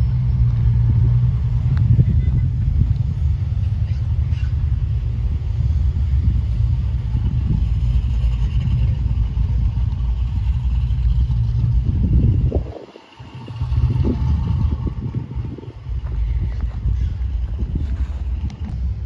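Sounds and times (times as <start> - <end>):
cars driving past: 0.0 - 19.0
wind buffeting microphone: 0.0 - 19.0.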